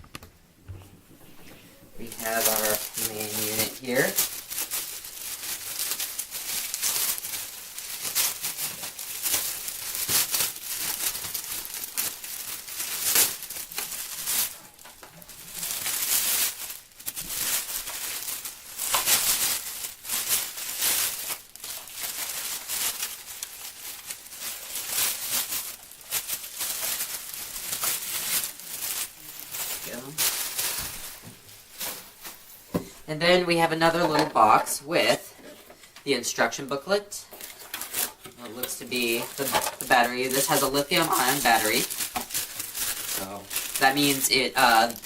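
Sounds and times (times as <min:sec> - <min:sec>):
packaging crinkling: 0:01.2 - 0:32.8, 0:37.2 - 0:45.0.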